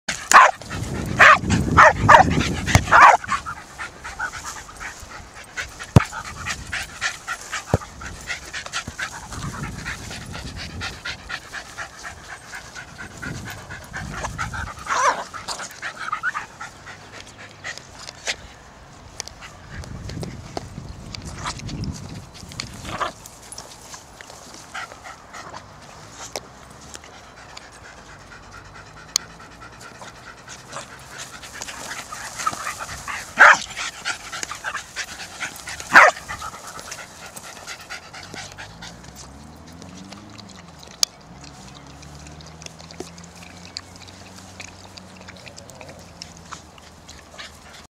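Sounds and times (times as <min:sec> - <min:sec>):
dog panting and snuffling: 0:00.1 - 0:47.9.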